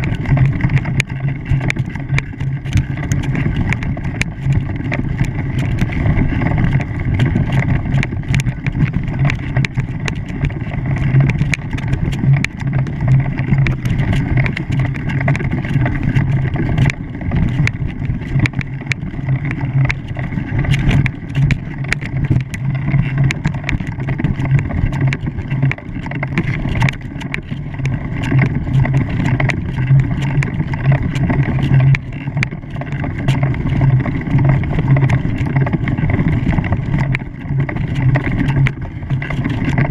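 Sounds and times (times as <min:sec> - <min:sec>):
engine running with pulsing hum: 0:00.0 - 0:39.9
wind or water noise: 0:00.0 - 0:39.9.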